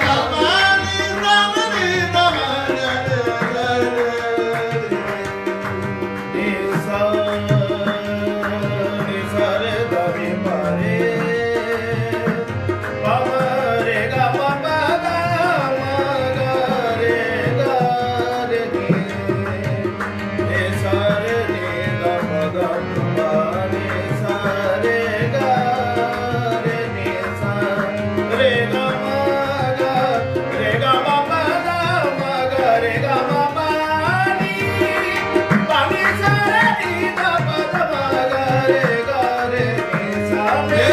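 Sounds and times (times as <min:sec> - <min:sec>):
harmoniums playing melody: 0:00.0 - 0:40.9
tabla beat: 0:00.0 - 0:40.9.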